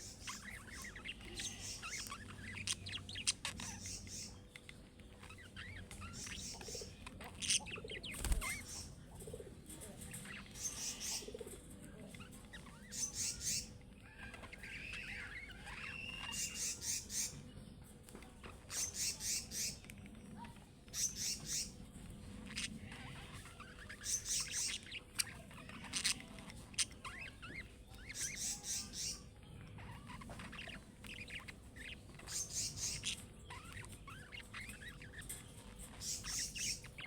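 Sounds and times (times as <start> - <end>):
budgerigars chirping: 0.0 - 9.0, 10.1 - 11.4, 12.2 - 17.5, 18.5 - 19.9, 20.9 - 21.8, 22.4 - 37.0
budgerigars warbling: 0.0 - 9.2, 10.1 - 11.5, 12.2 - 17.5, 18.5 - 19.9, 20.9 - 21.8, 22.4 - 37.0.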